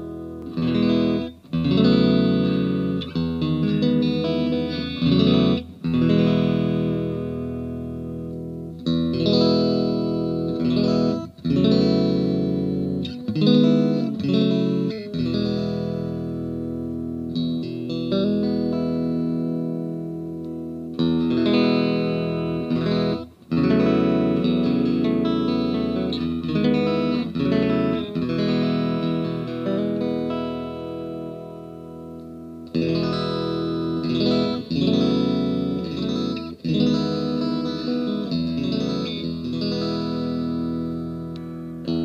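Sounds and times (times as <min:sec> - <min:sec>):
electric guitar chords strummed: 0:00.0 - 0:42.0.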